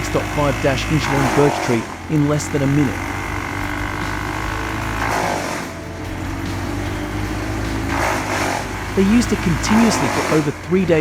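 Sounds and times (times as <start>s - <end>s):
wood chipper running: 0.0s - 11.0s.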